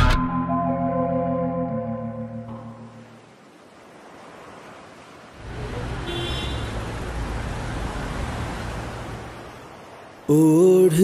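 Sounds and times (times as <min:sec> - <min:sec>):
rushing wash of noise: 0:02.0 - 0:11.0.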